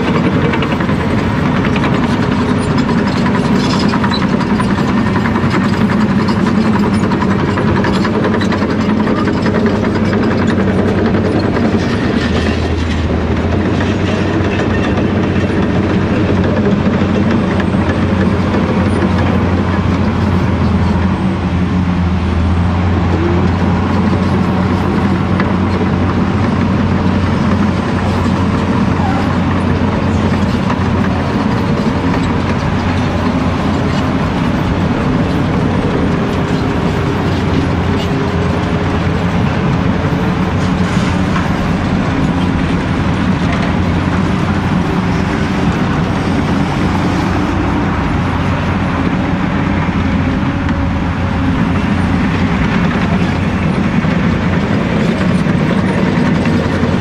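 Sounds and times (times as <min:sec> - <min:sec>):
excavator diesel engine droning: 0:00.0 - 0:57.0
heavy machine engines: 0:00.0 - 0:57.0.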